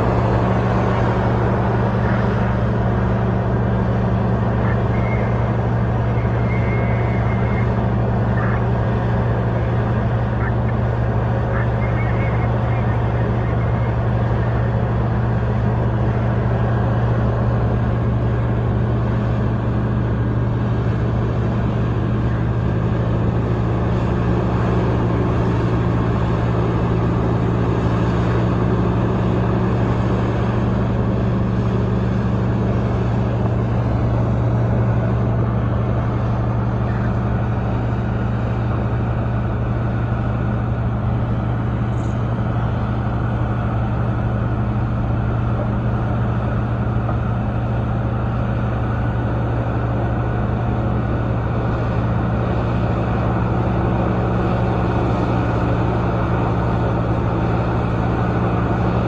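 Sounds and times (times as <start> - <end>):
large diesel engine droning: 0.0 - 59.0.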